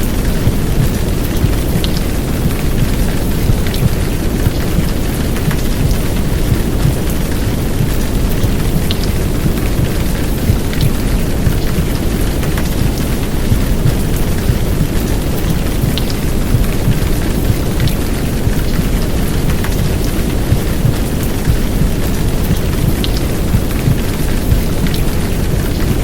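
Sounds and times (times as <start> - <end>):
heartbeat: 0.0 - 26.0
heavy rain: 0.0 - 26.0
white noise: 0.0 - 26.0.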